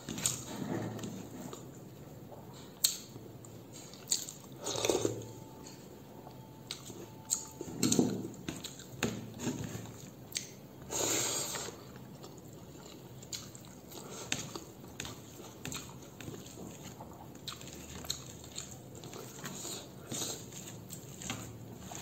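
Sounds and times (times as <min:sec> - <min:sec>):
wet chewing mouth sounds: 0:00.0 - 0:05.3, 0:06.3 - 0:09.0, 0:09.7 - 0:10.6, 0:11.4 - 0:22.0.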